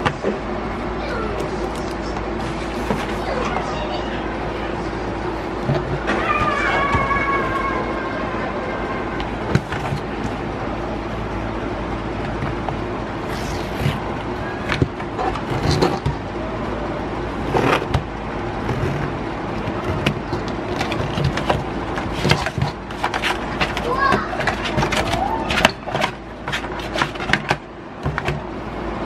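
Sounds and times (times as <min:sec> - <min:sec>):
constant background noise: 0:00.0 - 0:29.0.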